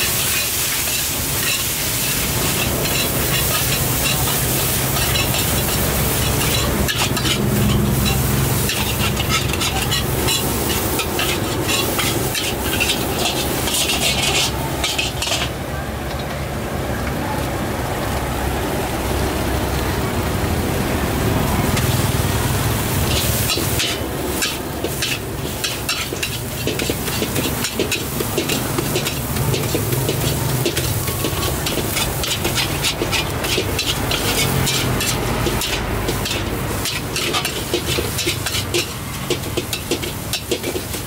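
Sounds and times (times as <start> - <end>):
food sizzling: 0.0 - 15.6, 18.8 - 41.0
metal spatula scraping a wok: 0.0 - 15.6, 22.8 - 41.0.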